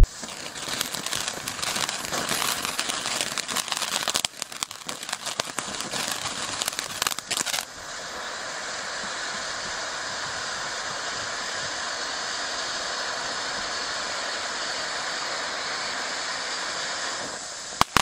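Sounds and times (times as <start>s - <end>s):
firework fountain crackling: 0.0s - 18.0s
firework fountain spraying hiss: 0.0s - 18.0s.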